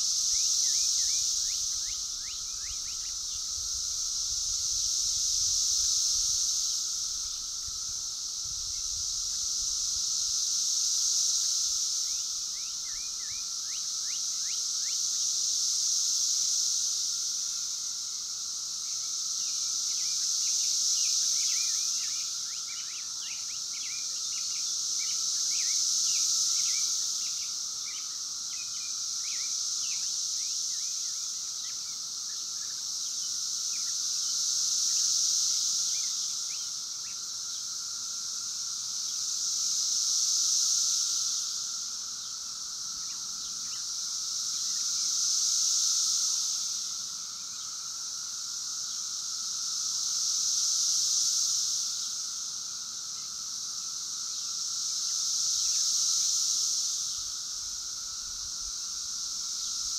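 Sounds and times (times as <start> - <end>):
cicadas buzzing: 0.0 - 59.9
low cicada drone: 0.0 - 59.9.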